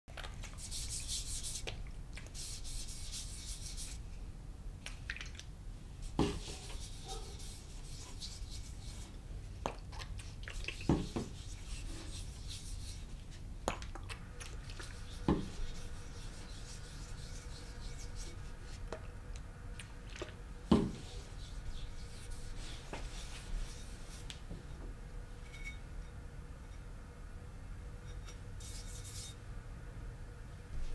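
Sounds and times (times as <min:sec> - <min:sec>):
steady low hum: 0:05.6 - 0:30.9.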